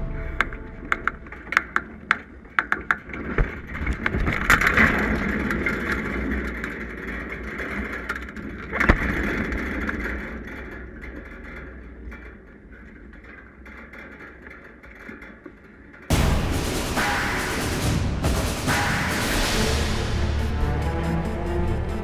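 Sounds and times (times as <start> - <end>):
sharp clicks and knocks: 0.0 - 19.2.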